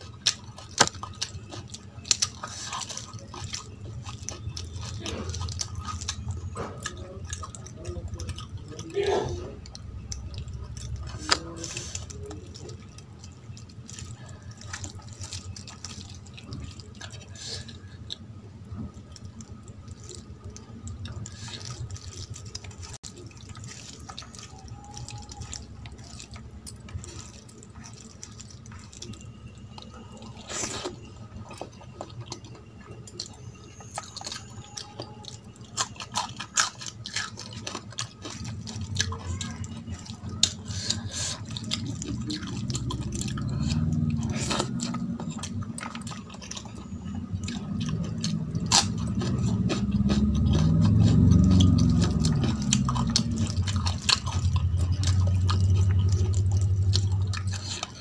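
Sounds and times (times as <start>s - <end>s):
wet squishing of rice: 0.0s - 58.0s.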